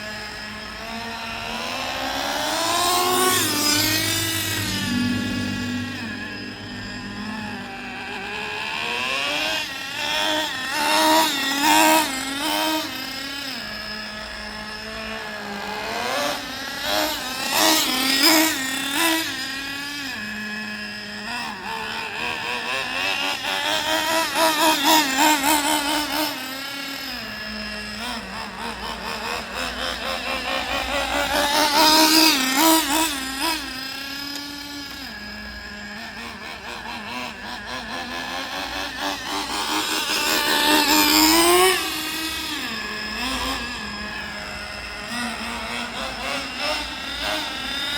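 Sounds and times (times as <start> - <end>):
rc truck engine revving: 0.0 - 4.8, 7.9 - 47.9.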